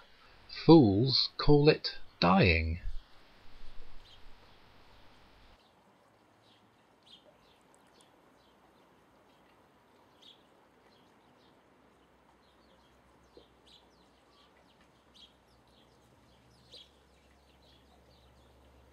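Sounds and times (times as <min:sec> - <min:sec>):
faint background hiss: 0:00.0 - 0:18.9
small birds chirping: 0:00.0 - 0:18.9.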